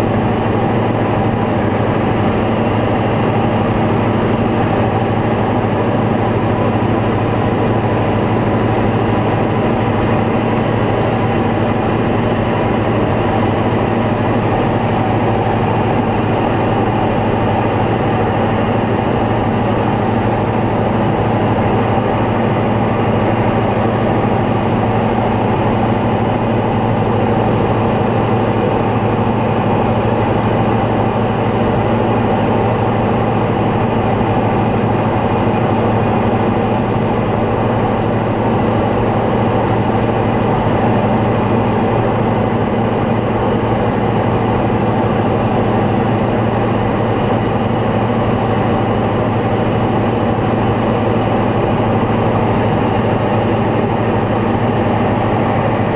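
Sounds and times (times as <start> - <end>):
light aircraft engine and propeller: 0.0 - 55.9.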